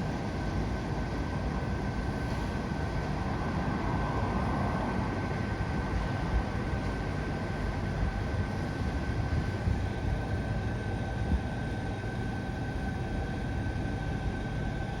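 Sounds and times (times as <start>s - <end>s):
people-mover train running: 0.0s - 15.0s.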